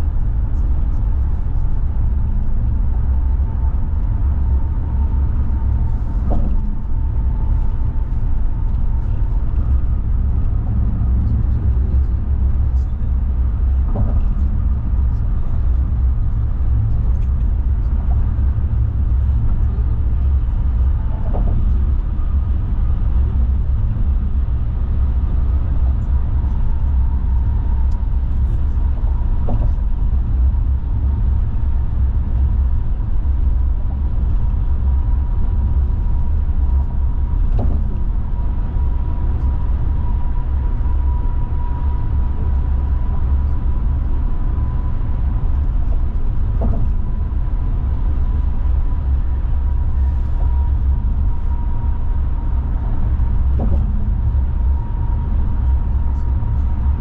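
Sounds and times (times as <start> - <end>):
faint steady whine: 0.0 - 57.0
tyre and engine rumble inside car: 0.0 - 57.0.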